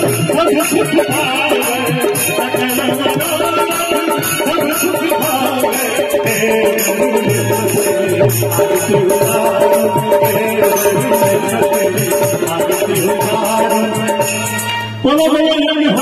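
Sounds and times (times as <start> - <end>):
steady percussion beat: 0.0 - 15.3
amplified devotional song: 0.0 - 16.0.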